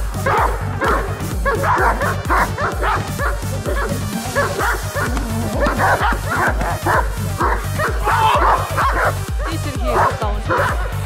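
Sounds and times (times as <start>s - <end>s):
music with bass beat: 0.0s - 11.0s
dog barking and yipping: 0.2s - 11.0s.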